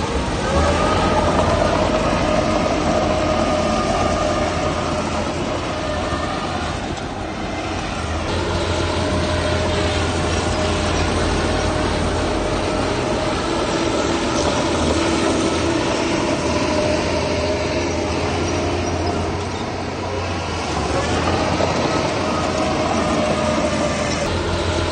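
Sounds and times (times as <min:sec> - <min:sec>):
heavy machinery engine drone: 0:00.0 - 0:24.9
machinery whine: 0:00.0 - 0:24.9.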